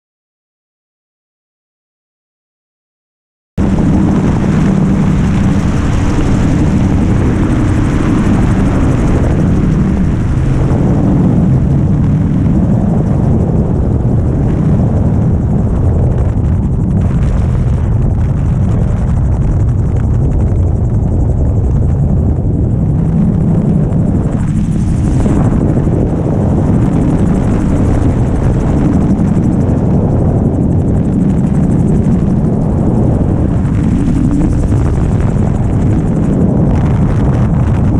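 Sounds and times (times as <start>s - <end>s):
aircraft engine and propeller drone: 3.6s - 37.9s.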